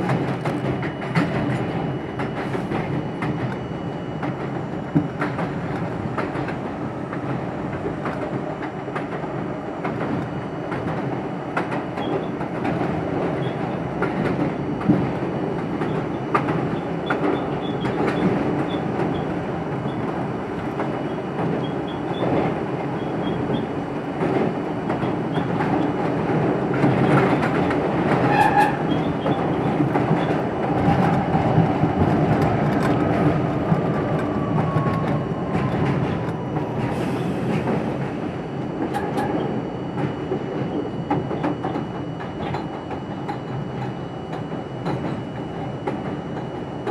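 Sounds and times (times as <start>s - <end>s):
subway train wheels clicking: 0.0s - 46.9s
train rumble: 0.0s - 46.9s.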